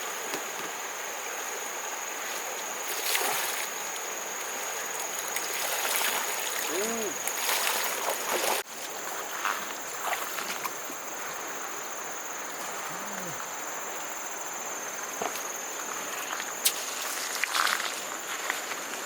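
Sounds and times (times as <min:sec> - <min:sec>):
insects droning: 0:00.0 - 0:19.0
outdoor background hiss: 0:00.0 - 0:19.0.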